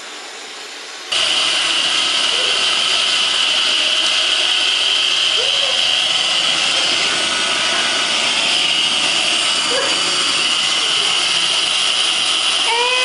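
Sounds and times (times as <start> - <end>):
robot vacuum whirring: 1.1 - 13.0.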